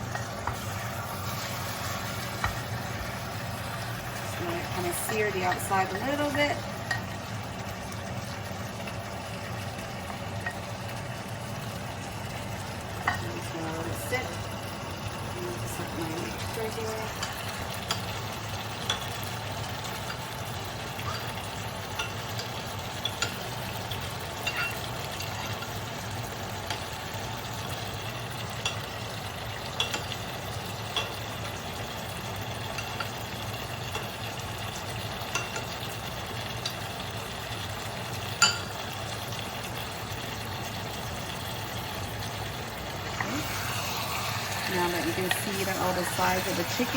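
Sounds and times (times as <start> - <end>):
chicken sizzling in hot oil: 0.0 - 46.9
oil popping and crackling: 0.0 - 46.9.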